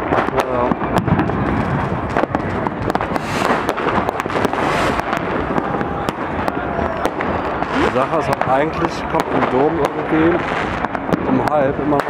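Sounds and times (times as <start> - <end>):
fireworks and firecrackers crackling: 0.0 - 12.0
sharp firework cracks: 0.0 - 12.0.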